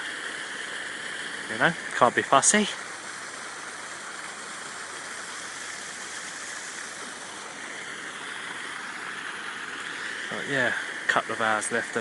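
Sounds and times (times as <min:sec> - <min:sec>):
churning water rushing: 0:00.0 - 0:12.0.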